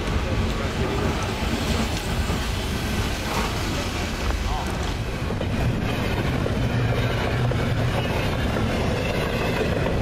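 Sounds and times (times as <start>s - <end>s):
steel wheels on rails: 0.0s - 10.0s.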